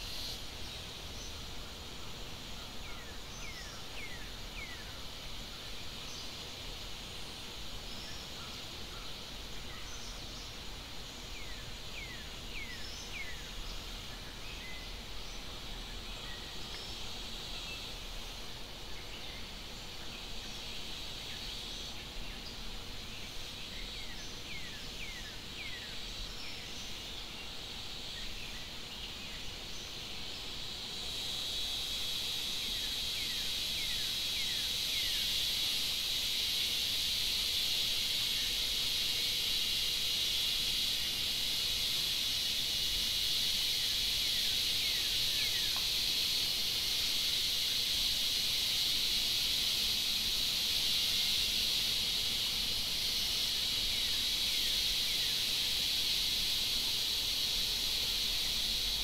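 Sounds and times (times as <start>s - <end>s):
insect chorus buzzing: 0.0s - 59.0s.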